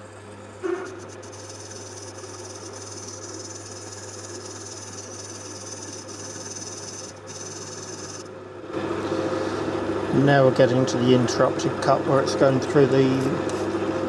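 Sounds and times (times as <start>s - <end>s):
lathe motor hum: 0.0s - 14.0s.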